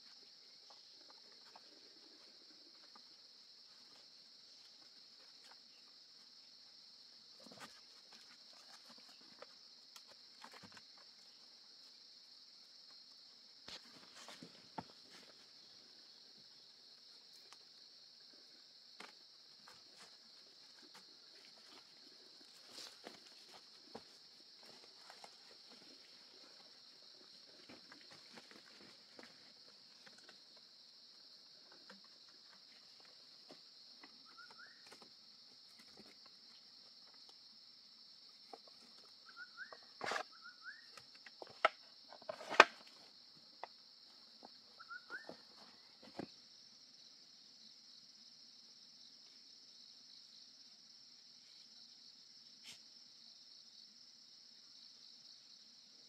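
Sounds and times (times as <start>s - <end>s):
insect chorus buzzing: 0.0s - 56.0s.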